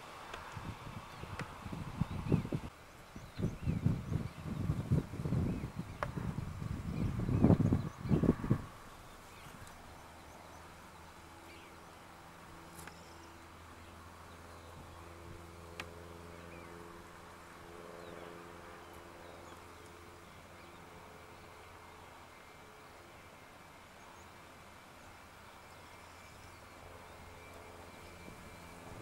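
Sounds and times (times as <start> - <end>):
distant jet engines humming: 0.0 - 29.0.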